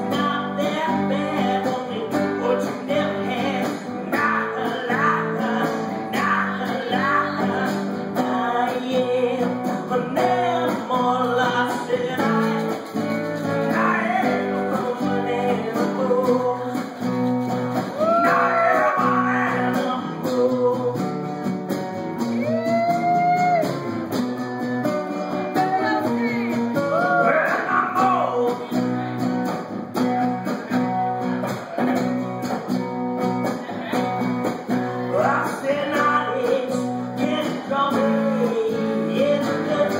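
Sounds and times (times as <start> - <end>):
person singing: 0.0 - 24.0, 25.0 - 29.7, 33.4 - 39.9
guitar playing: 0.0 - 39.9.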